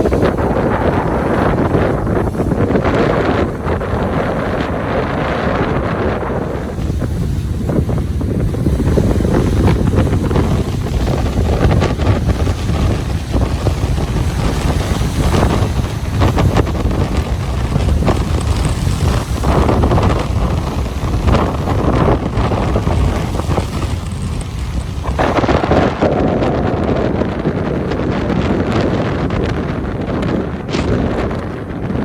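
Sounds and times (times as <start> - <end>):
ocean waves washing on beach: 0.0 - 32.0
wind buffeting microphone: 0.0 - 32.0.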